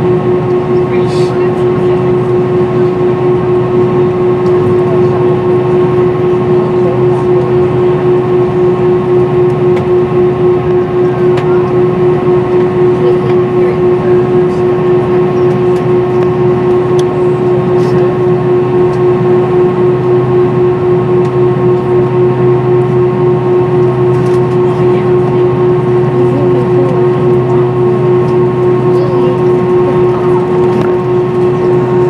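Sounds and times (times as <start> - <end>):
jet engine cabin hum: 0.0 - 32.0.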